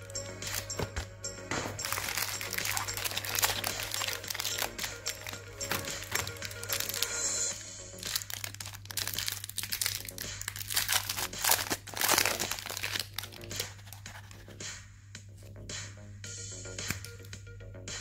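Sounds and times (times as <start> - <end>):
foil wrapper crinkling: 0.0 - 14.5.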